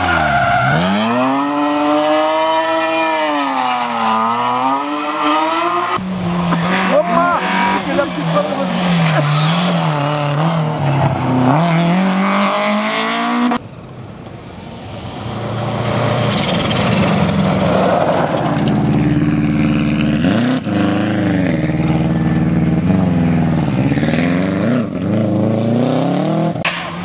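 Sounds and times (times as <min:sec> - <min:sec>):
rally car engine revving: 0:00.0 - 0:13.6, 0:15.5 - 0:26.9
rally car approaching at full throttle: 0:00.0 - 0:27.0.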